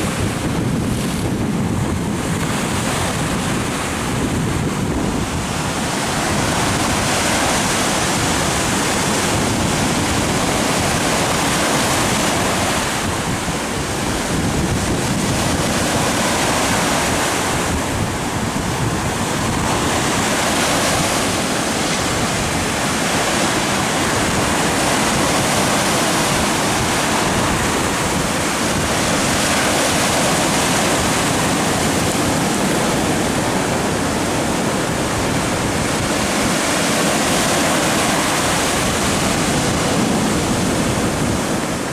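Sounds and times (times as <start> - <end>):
surf breaking on sand and rocks: 0.0 - 41.9
wind buffeting microphone: 0.0 - 41.9.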